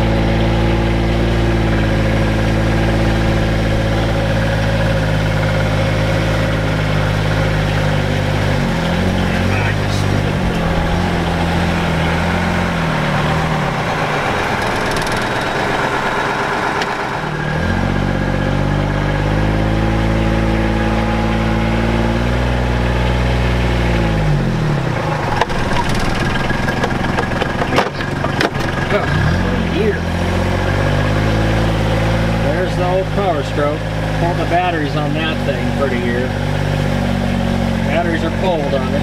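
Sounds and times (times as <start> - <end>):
tractor engine revving: 0.0 - 39.0.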